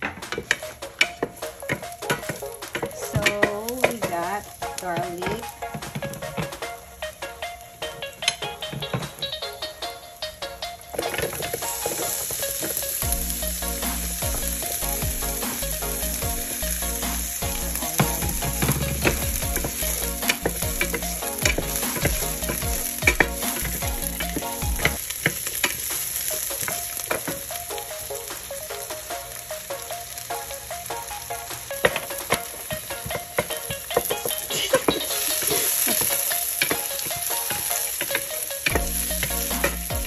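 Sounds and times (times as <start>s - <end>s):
onion and garlic sizzling in oil: 0.3s - 6.7s, 11.0s - 40.0s.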